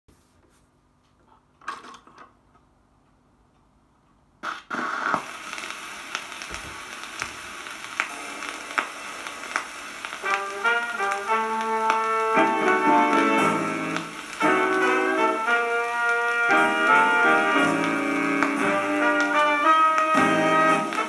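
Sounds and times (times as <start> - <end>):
record surface hiss and crackle: 0.1 - 21.0.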